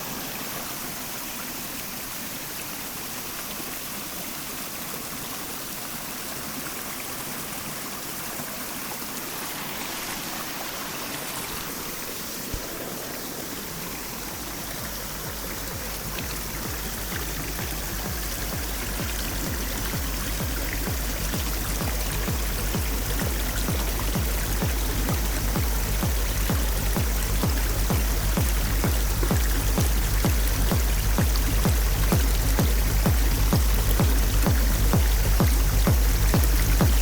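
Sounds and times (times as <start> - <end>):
stream babbling over stones: 0.0 - 37.0.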